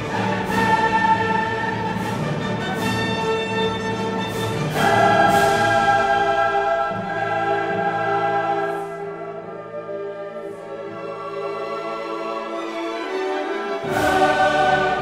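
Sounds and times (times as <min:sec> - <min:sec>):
choir and orchestra music: 0:00.0 - 0:15.0.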